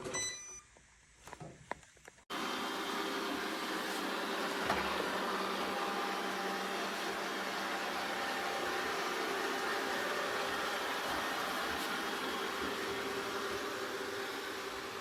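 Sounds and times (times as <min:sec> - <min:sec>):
motor and fan humming: 0:02.3 - 0:15.0.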